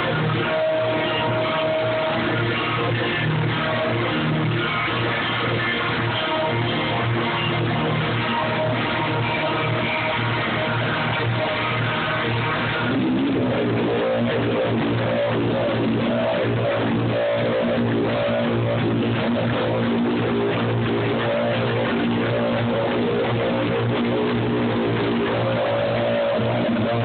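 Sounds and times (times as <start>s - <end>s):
low drone: 0.0s - 27.0s.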